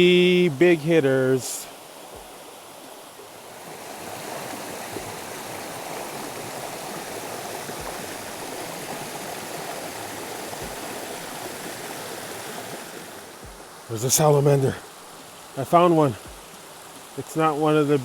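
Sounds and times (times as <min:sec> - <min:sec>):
water rushing down a waterfall: 0:00.0 - 0:18.0.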